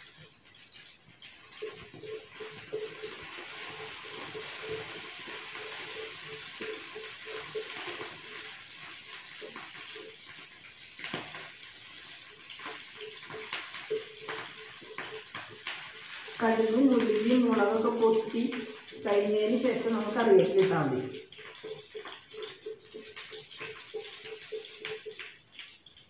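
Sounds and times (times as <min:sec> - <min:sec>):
wooden spatula stirring: 0:00.0 - 0:25.4
spices sizzling in hot oil: 0:00.0 - 0:26.0.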